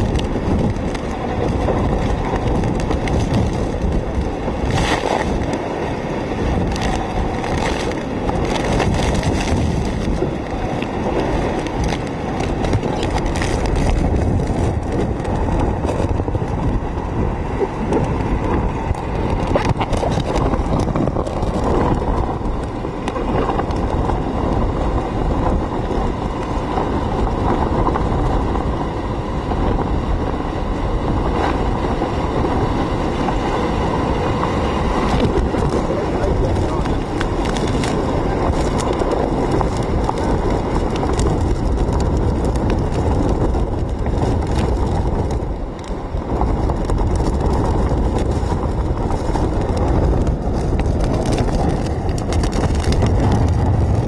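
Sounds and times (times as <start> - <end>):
rain ticks striking: 0.0 - 30.3, 31.1 - 54.0
heavy wind buffeting microphone: 0.0 - 54.0.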